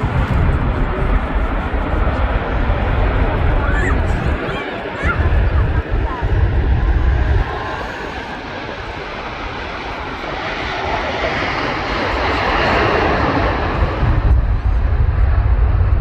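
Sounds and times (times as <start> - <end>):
deep rumble: 0.0 - 16.0
jet engines roaring at take-off: 0.0 - 16.0.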